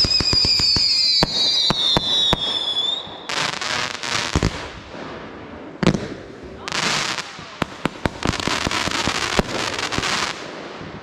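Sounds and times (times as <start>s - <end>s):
firework bangs: 0.0s - 11.0s
firework crackling: 0.0s - 11.0s.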